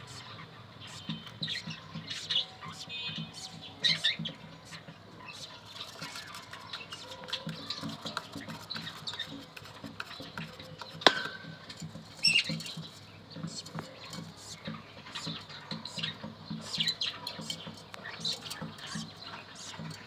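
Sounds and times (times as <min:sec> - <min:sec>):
birds chirping and squeaking: 0:00.0 - 0:20.0.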